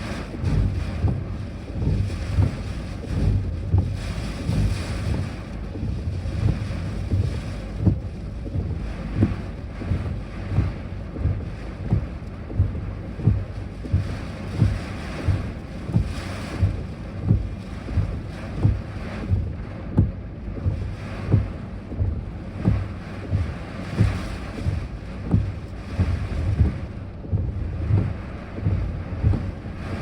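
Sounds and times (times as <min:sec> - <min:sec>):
wind buffeting microphone: 0:00.0 - 0:30.0
low thumps: 0:00.4 - 0:30.0.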